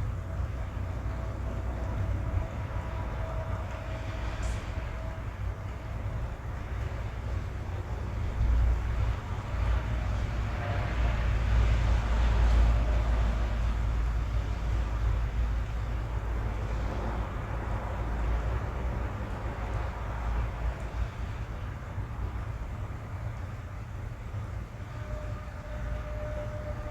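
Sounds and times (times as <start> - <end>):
low rumble and hiss: 0.0 - 26.9
rain on a car: 0.4 - 24.8.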